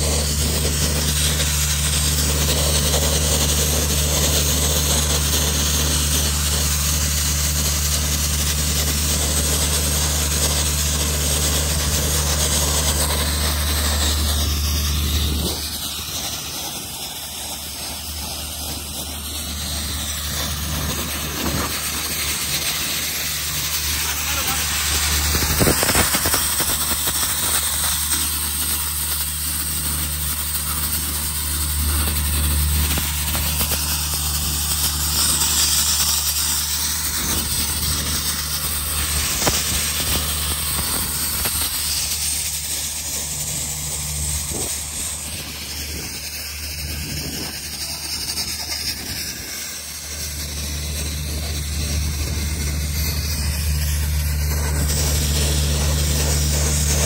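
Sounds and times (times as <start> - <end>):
low hum: 0.0 - 57.0
sandblaster hissing: 0.0 - 57.0.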